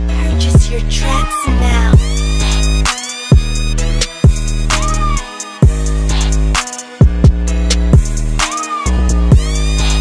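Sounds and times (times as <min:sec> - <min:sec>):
held bass line: 0:00.0 - 0:10.0.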